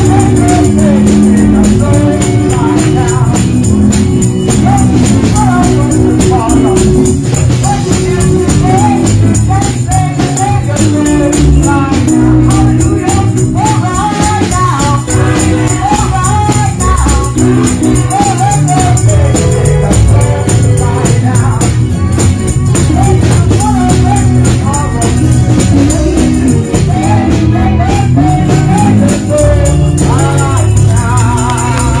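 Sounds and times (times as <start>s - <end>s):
gospel singing with band: 0.0s - 32.0s.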